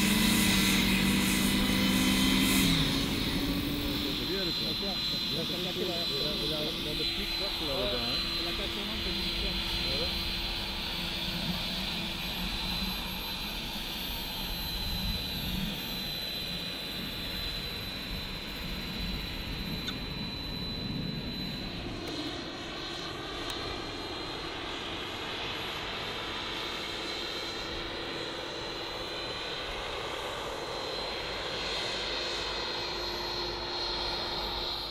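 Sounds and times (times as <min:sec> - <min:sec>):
model aircraft engine whining: 0:00.0 - 0:34.9.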